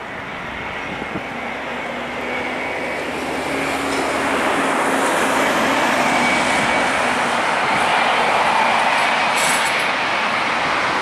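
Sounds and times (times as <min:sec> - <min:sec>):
jet airliner engines roaring: 0:00.0 - 0:11.0.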